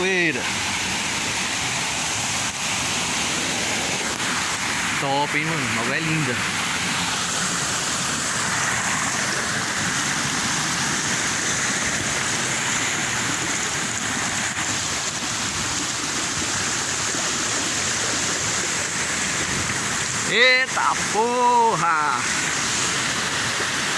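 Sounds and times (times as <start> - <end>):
waterfall roaring: 0.0 - 23.9.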